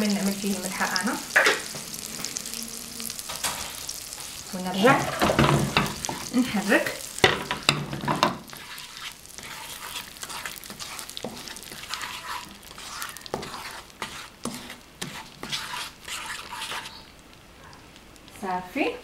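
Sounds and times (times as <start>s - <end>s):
spatula scraping a pan: 0.0s - 17.2s
caramel bubbling and sizzling: 0.0s - 19.0s.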